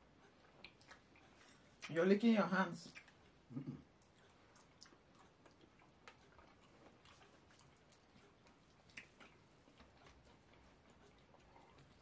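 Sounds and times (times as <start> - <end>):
chewing: 0.0 - 2.0, 2.8 - 12.0
wet clicks of eating by hand: 0.3 - 2.0, 2.8 - 3.4, 4.0 - 12.0.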